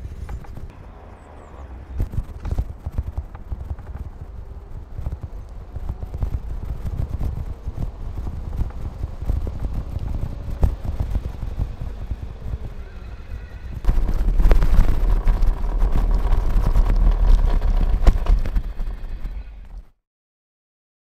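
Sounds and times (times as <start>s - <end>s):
scooter wheels rattling on pavement: 0.0s - 19.8s
low rolling rumble: 0.0s - 19.9s.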